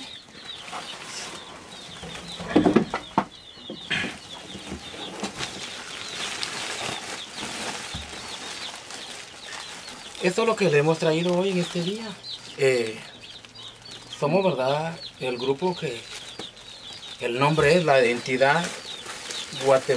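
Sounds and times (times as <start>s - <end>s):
bird chirps: 0.0s - 19.9s
plastic bags rustling: 0.0s - 19.9s.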